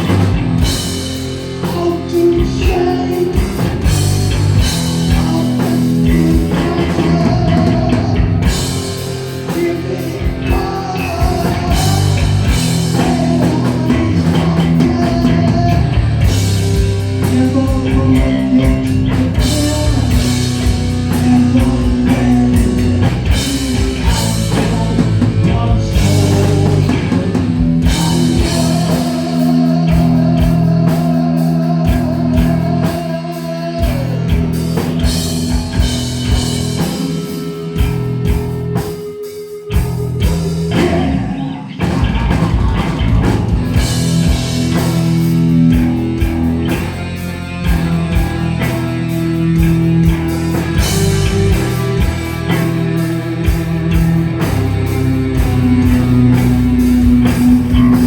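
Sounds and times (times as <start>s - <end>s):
heavy metal band playing live: 0.0s - 58.0s.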